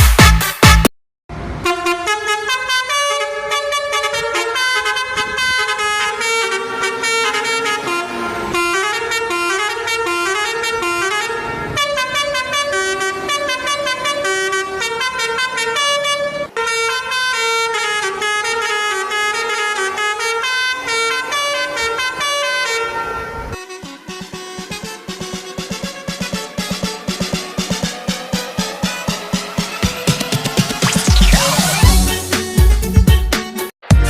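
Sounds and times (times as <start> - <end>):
musical air horn melody: 1.6 - 34.0.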